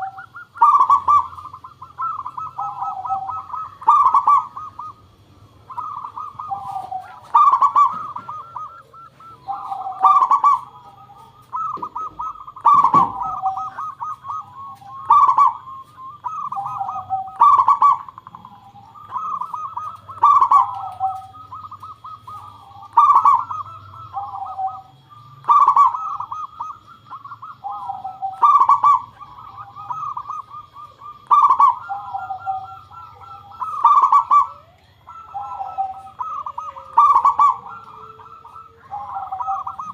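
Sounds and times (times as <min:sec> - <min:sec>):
zebra dove cooing: 0:00.0 - 0:39.9.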